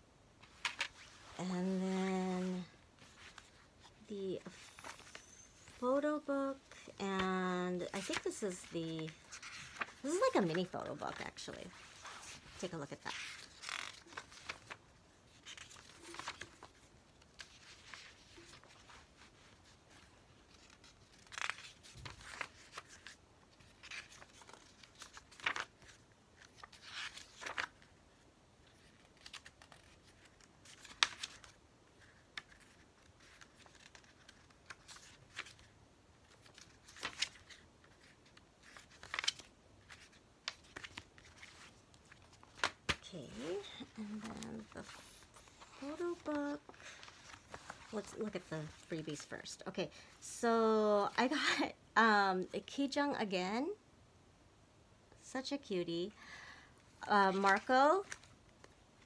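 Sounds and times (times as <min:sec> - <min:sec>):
paper pages turning: 0:00.4 - 0:49.4, 0:57.3 - 0:58.8.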